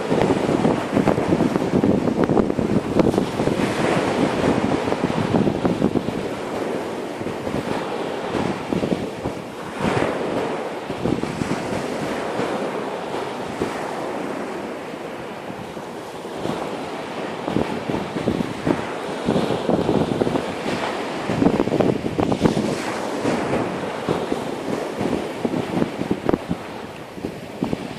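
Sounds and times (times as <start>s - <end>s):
surf washing onto beach: 0.0s - 27.9s
wind buffeting microphone: 0.0s - 27.9s.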